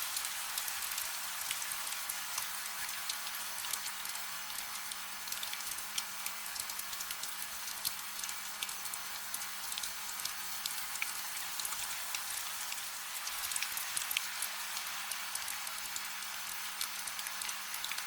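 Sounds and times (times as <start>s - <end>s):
raindrops ticking on a surface: 0.0s - 18.0s.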